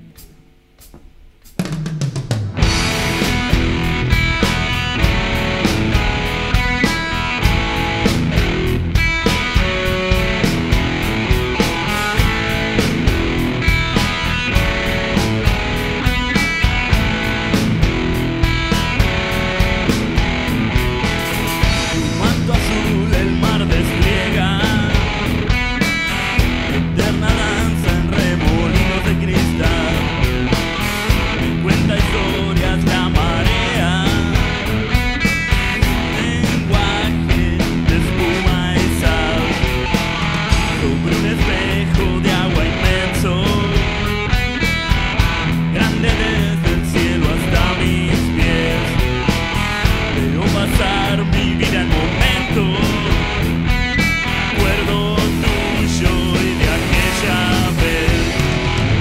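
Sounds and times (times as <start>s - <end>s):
rock music with drums and guitar: 0.0s - 59.0s.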